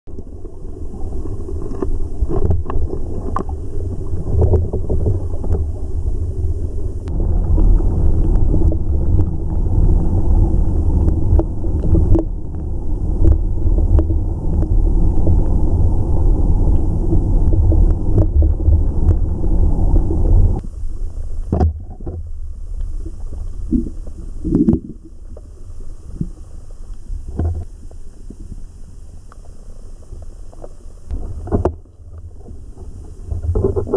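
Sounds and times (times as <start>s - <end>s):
muffled underwater water rumble: 0.1s - 33.9s.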